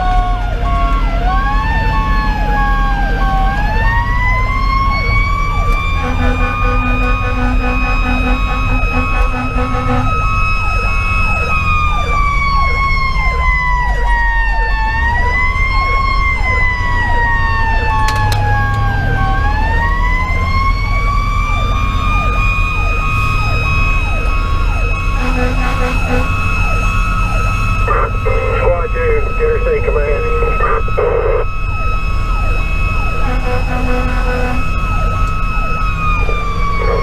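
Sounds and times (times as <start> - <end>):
diesel engine and road rumble: 0.0 - 37.0
electronic siren sweeping: 0.0 - 37.0
mechanical siren wailing: 0.0 - 37.0.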